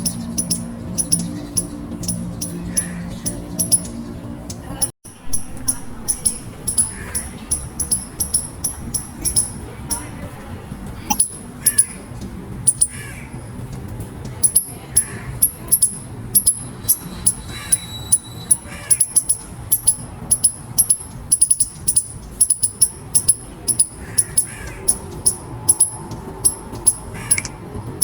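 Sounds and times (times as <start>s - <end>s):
squirrel squeaking: 0.0s - 28.0s.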